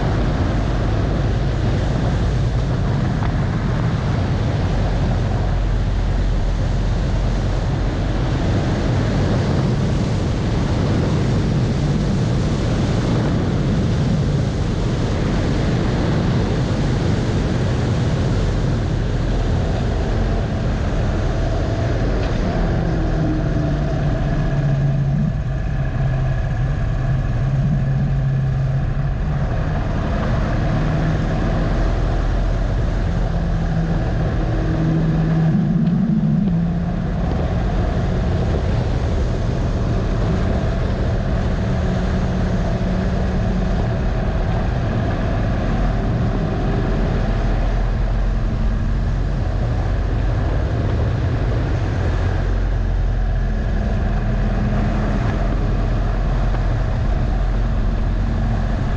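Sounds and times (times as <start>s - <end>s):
motorcycle engine running: 0.0s - 58.9s
wind rush on microphone: 0.0s - 58.9s.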